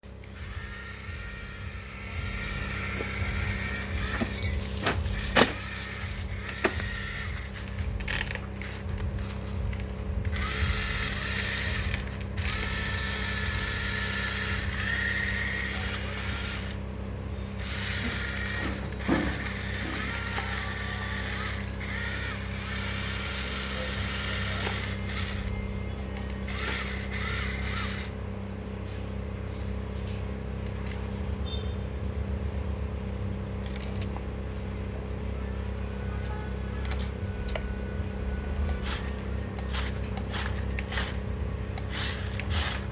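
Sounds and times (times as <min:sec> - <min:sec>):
electric motors whining: 0:00.0 - 0:42.9
steady hum: 0:00.0 - 0:42.9.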